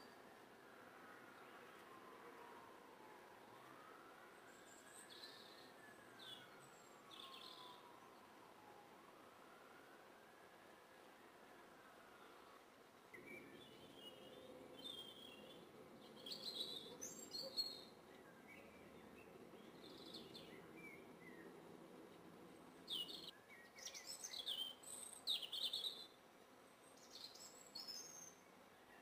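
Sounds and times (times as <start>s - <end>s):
faint background noise: 0.0s - 29.0s.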